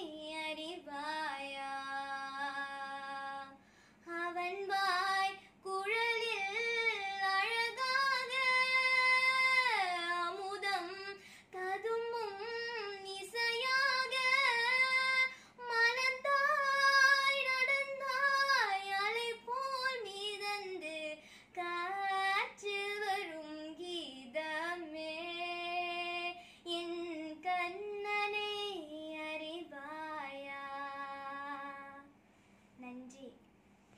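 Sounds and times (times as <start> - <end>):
girl singing unaccompanied: 0.0 - 32.2.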